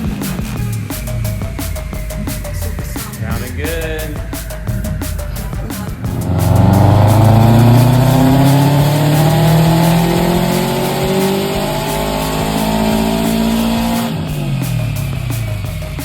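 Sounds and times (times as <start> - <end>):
car engine pulling hard: 0.0 - 16.0.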